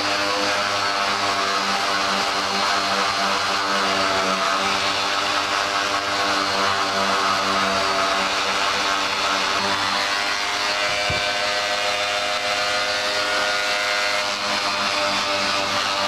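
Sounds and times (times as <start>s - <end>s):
electric sander motor whine: 0.0s - 16.0s
sanding pad grinding filler: 0.0s - 16.0s.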